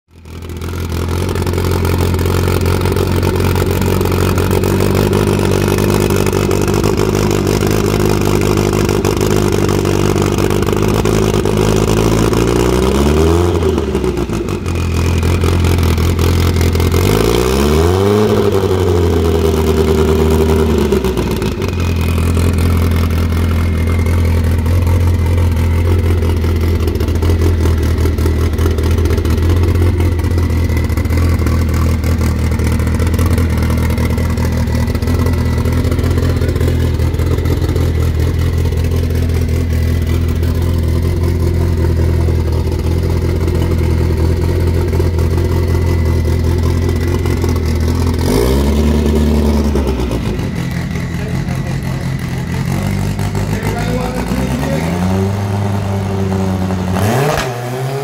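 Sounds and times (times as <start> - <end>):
car engine idling and revving: 0.1 - 58.0.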